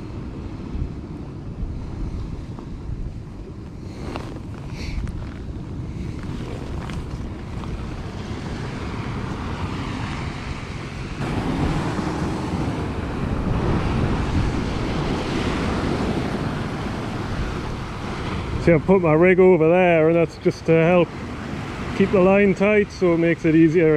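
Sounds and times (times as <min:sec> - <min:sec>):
sea waves washing over rocks: 0:00.0 - 0:23.9
wind buffeting microphone: 0:00.0 - 0:23.9.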